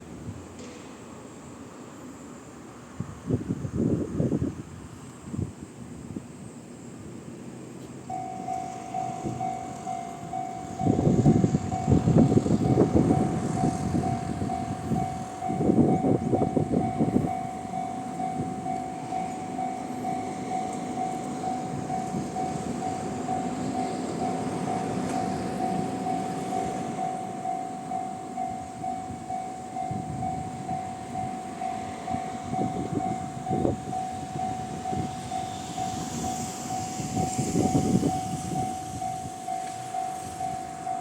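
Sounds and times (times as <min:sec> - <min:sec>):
electric train on rails: 0:00.0 - 0:41.0
level crossing warning alarm: 0:08.1 - 0:41.0.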